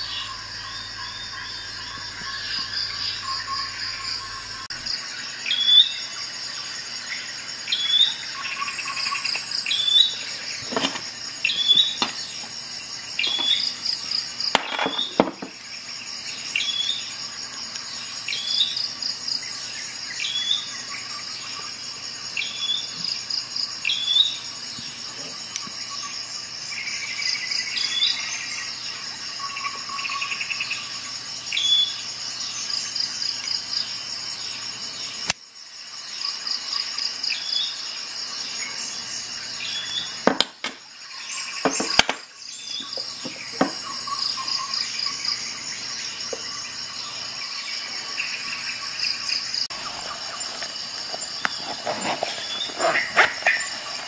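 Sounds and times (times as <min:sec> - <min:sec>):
high insect-like chirps: 0:00.0 - 0:54.0.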